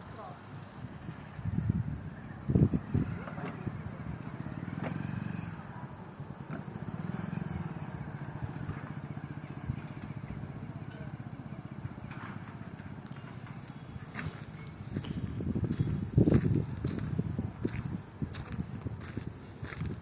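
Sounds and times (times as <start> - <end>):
engine pulsing hum: 0.0 - 20.0.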